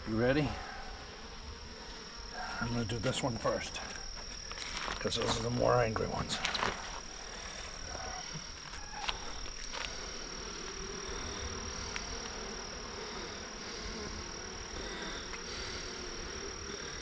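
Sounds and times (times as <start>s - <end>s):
high-pitched insect trill: 0.0s - 17.0s
honeybees humming: 0.0s - 17.0s.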